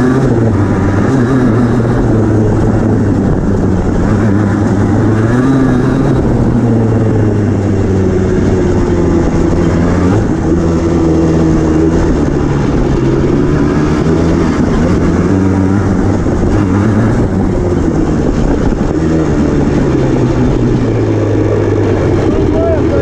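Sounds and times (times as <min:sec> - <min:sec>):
two-stroke atv engine revving: 0:00.0 - 0:23.0.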